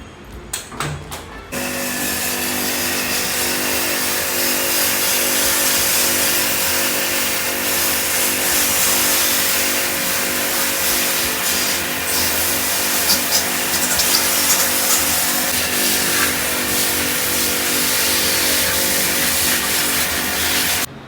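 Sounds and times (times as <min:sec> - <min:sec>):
small motor humming with hiss: 0:01.6 - 0:20.9.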